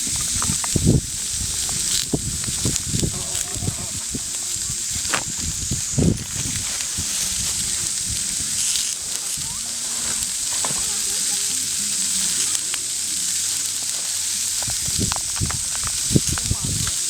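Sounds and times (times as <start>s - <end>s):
food sizzling in a pan: 0.0s - 17.0s
small pops: 0.0s - 17.0s.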